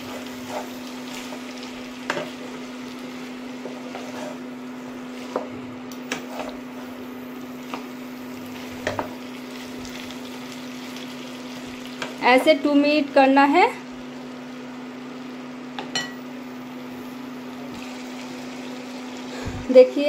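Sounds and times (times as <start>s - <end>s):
food sizzling in frying pan: 0.0s - 19.8s.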